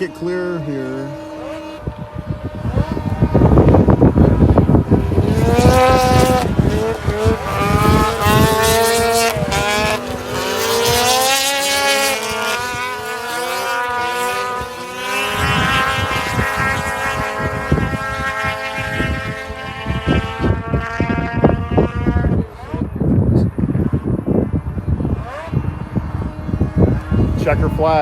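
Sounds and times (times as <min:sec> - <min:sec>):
snowmobile engines whining: 0:00.0 - 0:28.0.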